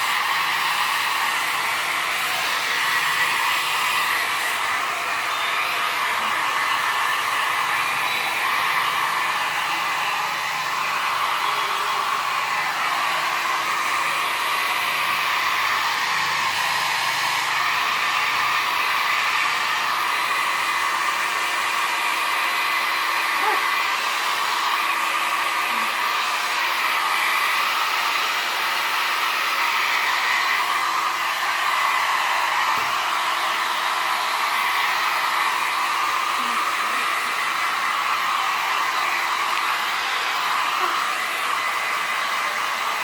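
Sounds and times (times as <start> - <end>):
blower rushing air: 0.0 - 43.0.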